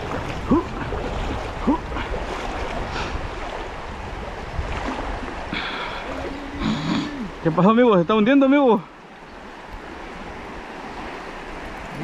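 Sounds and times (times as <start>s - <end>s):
river water rushing over riffles: 0.0s - 12.0s.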